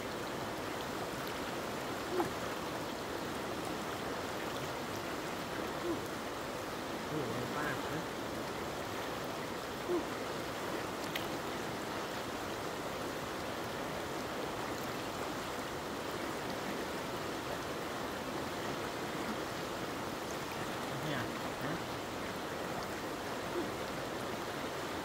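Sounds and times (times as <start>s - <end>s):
rushing stream water: 0.0s - 25.0s.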